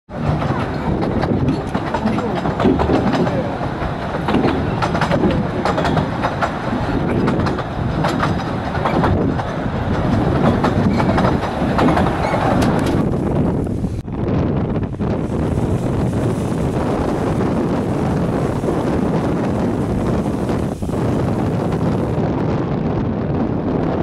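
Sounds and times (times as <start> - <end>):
wind buffeting microphone: 0.1 - 24.0.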